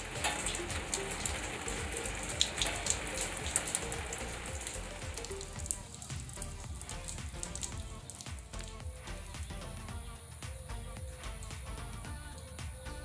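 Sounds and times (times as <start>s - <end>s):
water drops pattering: 0.0s - 13.0s.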